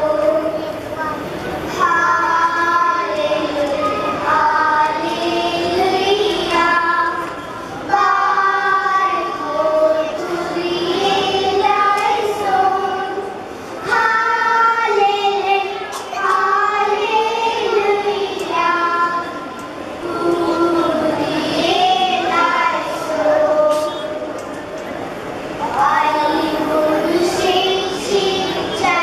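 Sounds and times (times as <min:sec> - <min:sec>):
children singing: 0:00.0 - 0:24.4, 0:25.6 - 0:29.0.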